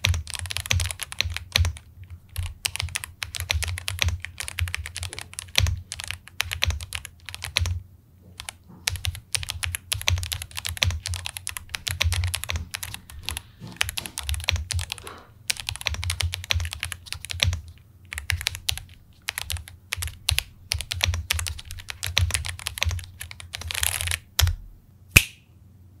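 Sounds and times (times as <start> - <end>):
mechanical keyboard typing: 0.0 - 24.6.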